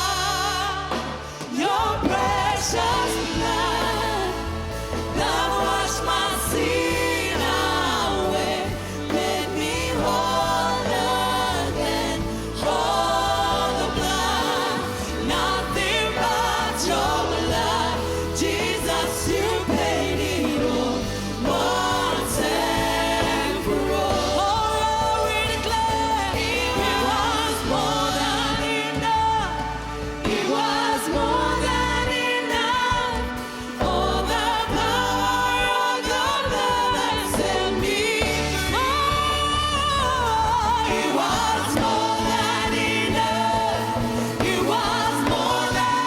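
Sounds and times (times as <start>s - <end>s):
choir singing: 0.0s - 46.0s
lead vocalists singing: 0.0s - 46.0s
worship band playing: 0.0s - 46.0s.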